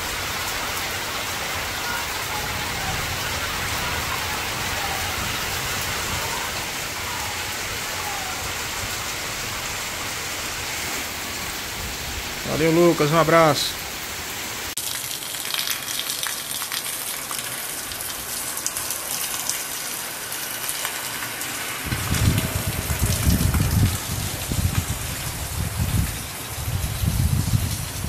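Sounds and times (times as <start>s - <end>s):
heavy rain pouring: 0.0s - 28.0s
water gushing off a roof: 0.0s - 28.0s.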